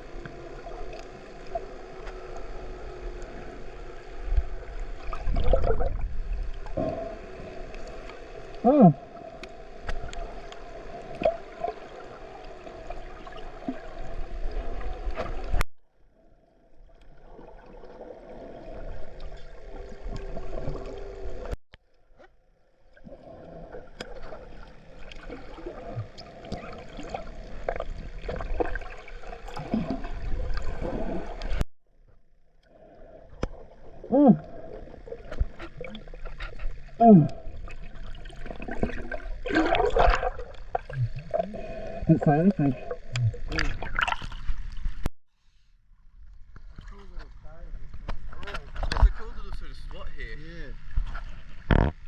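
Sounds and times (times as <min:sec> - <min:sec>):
water sloshing and gurgling: 0:00.0 - 0:45.1, 0:46.0 - 0:52.0.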